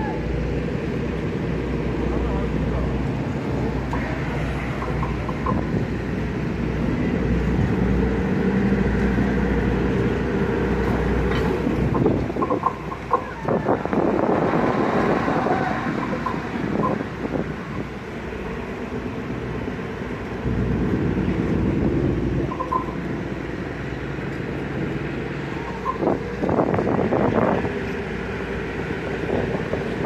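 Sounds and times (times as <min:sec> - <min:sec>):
diesel engine droning: 0:00.0 - 0:30.0
rough noisy gusts: 0:00.0 - 0:30.0.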